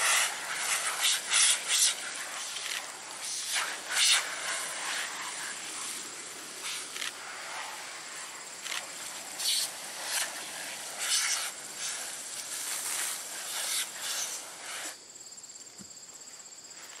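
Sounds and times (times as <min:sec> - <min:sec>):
garden hose spraying water: 0:00.0 - 0:15.1
high-pitched insect trill: 0:00.0 - 0:17.0.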